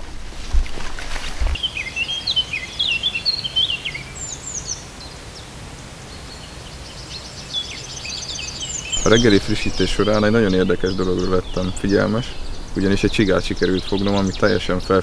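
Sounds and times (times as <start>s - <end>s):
songbirds chirping and warbling: 0.0s - 15.0s.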